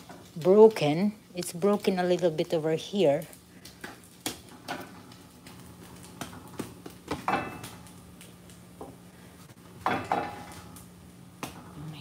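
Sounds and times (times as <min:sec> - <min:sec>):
potatoes frying: 0:00.0 - 0:12.0.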